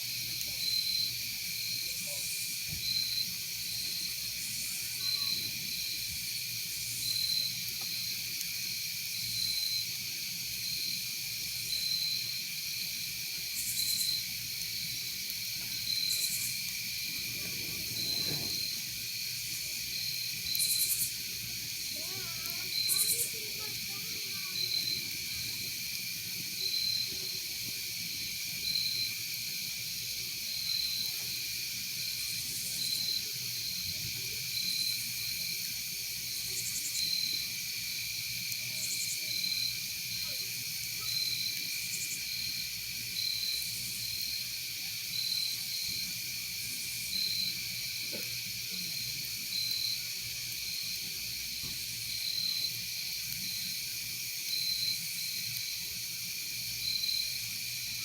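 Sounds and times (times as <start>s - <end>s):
insects trilling: 0.0s - 58.0s
buzzy insect call: 0.1s - 48.0s
cricket chirping: 0.1s - 58.0s.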